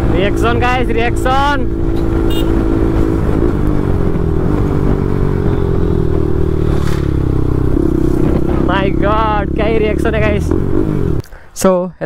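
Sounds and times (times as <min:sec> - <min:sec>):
motorcycle engine running loud: 0:00.0 - 0:11.2.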